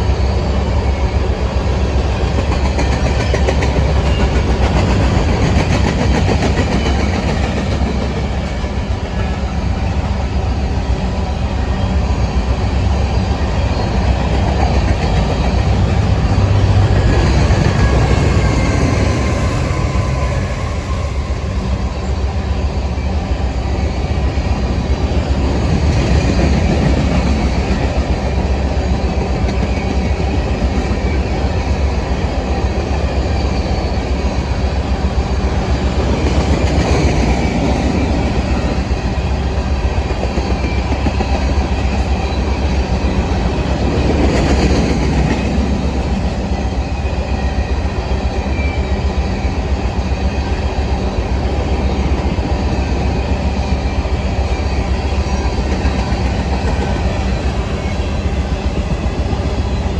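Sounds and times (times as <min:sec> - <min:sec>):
train rumble with wheel clatter: 0:00.0 - 0:59.9.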